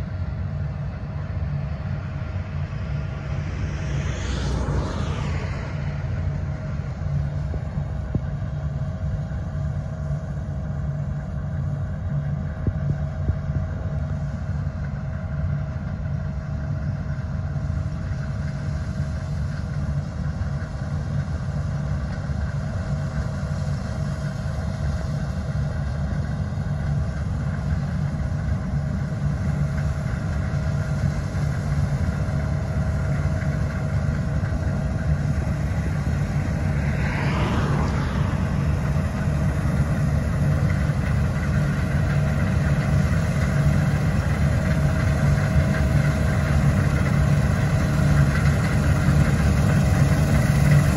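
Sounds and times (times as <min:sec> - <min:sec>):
combine harvester engine drone: 0:00.0 - 0:50.9
high machine whine: 0:00.0 - 0:50.9.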